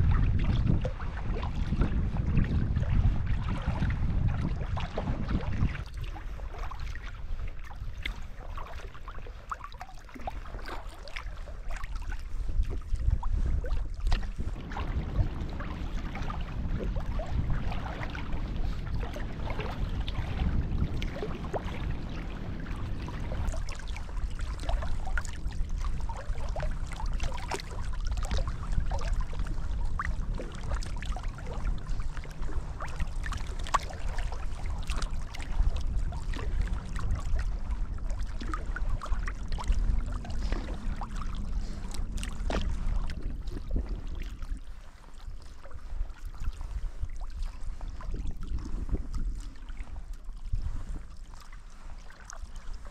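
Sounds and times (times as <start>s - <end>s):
steady low rumble: 0.0s - 52.9s
water splashing against kayak: 0.0s - 52.9s.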